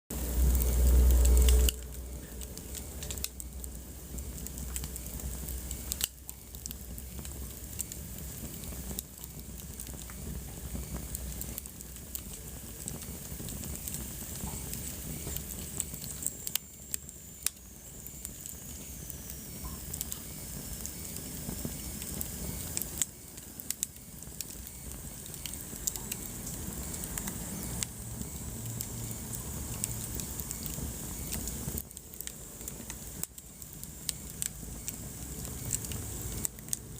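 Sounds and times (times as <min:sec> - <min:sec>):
low rumble of flame: 0:00.1 - 0:36.9
wood fire crackling: 0:00.1 - 0:36.9
sharp pops of fire: 0:00.2 - 0:36.9.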